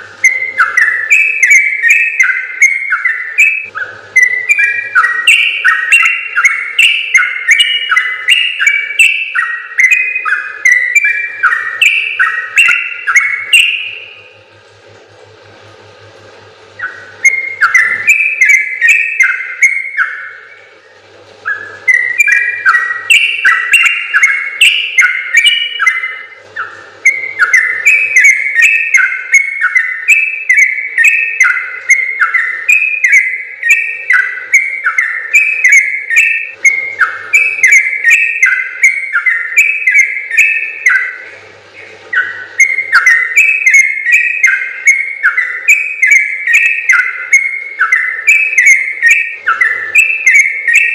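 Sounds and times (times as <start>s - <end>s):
bird singing whistled notes: 0.2s - 14.3s, 16.8s - 41.2s, 42.1s - 50.9s.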